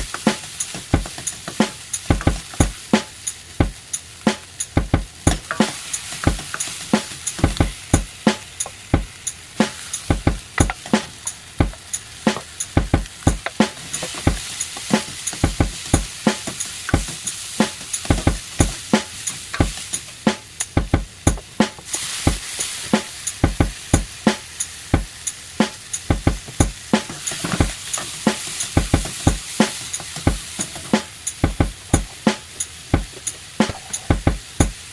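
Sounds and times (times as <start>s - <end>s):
rice sizzling in hot pan: 0.0s - 34.9s.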